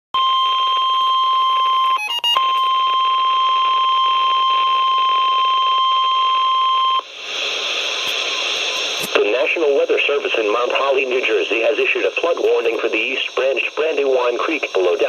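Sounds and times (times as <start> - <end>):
weather radio alarm tone: 0.2 - 15.0
steady radio hiss: 2.6 - 15.0.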